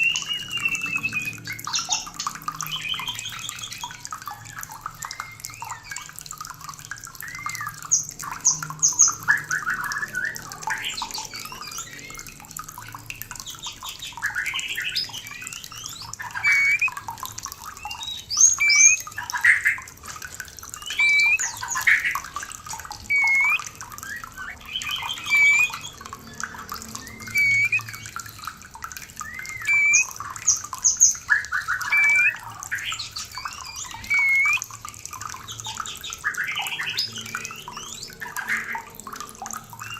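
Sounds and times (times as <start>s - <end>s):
bird singing whistled song: 0.0s - 6.4s, 7.1s - 19.8s, 20.8s - 38.9s.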